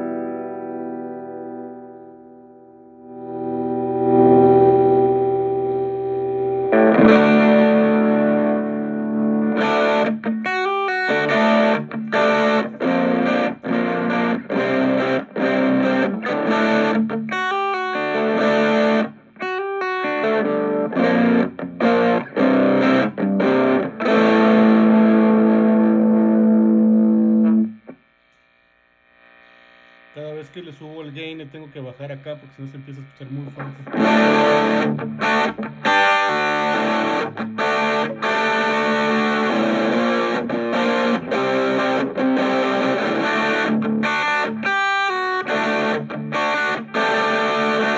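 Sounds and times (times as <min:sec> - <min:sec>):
distorted electric guitar chords: 0:00.0 - 0:28.2, 0:29.2 - 0:47.9.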